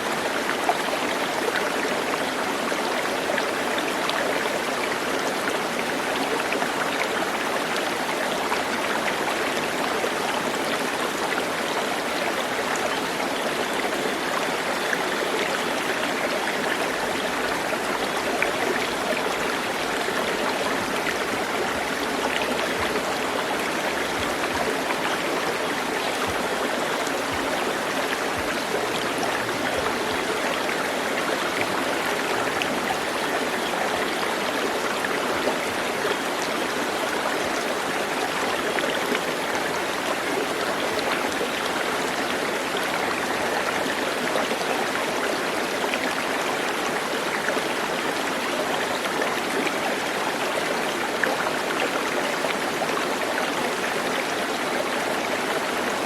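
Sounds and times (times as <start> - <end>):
running water stream: 0.0 - 56.0.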